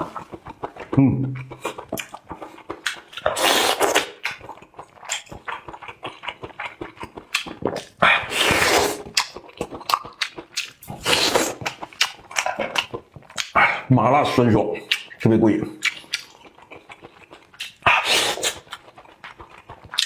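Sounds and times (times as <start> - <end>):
slurping: 0.0 - 20.0
wet chewing: 0.0 - 20.0.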